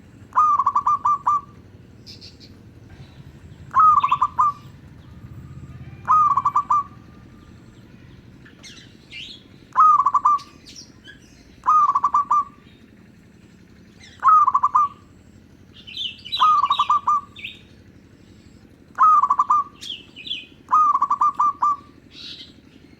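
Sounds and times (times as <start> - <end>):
dove cooing: 0.0 - 22.5
small birds chirping: 0.0 - 22.9.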